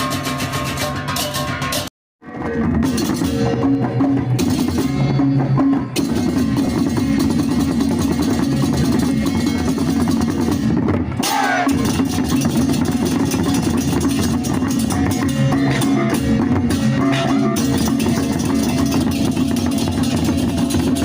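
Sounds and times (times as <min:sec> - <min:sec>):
music with dense drumming: 0:00.0 - 0:21.0.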